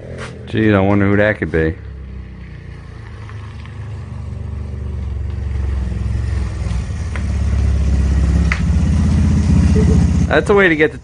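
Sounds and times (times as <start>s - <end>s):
small motorcycle engine running: 1.8s - 11.0s.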